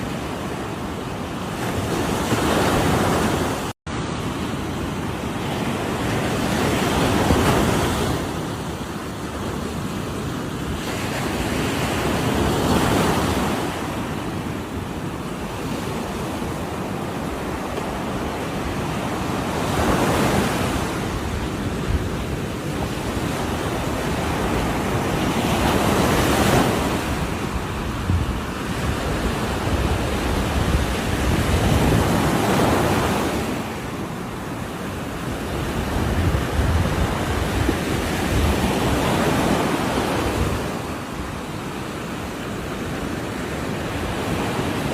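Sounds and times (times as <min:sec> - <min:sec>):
ocean waves crashing: 0:00.0 - 0:44.9.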